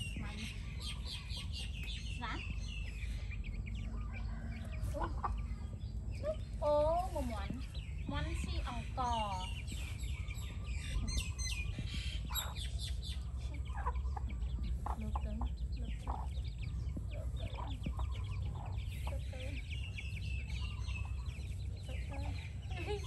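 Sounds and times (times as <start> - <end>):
chickens clucking: 0.0 - 23.0
chicks peeping: 0.0 - 23.0
low steady rumble: 0.0 - 23.0.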